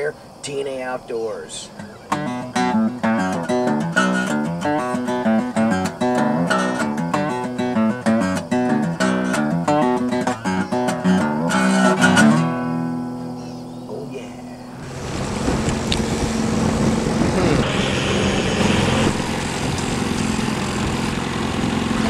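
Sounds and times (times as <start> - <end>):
acoustic guitar: 1.5 - 13.7, 14.6 - 22.0.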